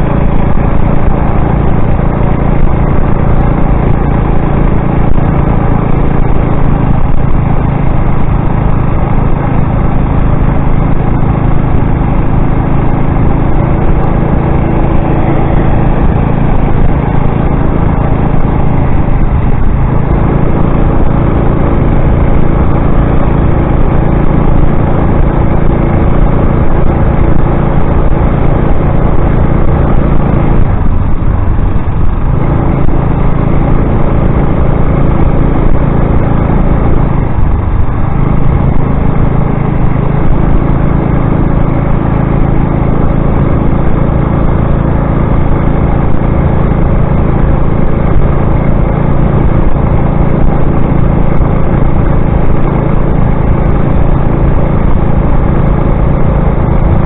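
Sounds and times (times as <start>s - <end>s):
wind rush on microphone: 0.0s - 57.0s.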